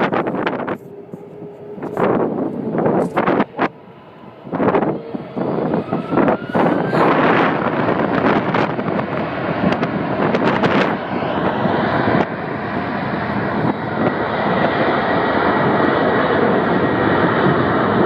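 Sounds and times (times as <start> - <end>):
jet engines roaring at takeoff: 0.0 - 18.0
wind buffeting microphone: 0.0 - 18.0.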